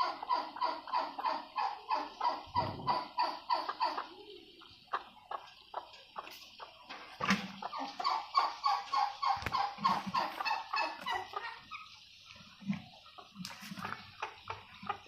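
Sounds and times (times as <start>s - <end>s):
turkeys yelping: 0.0s - 15.0s.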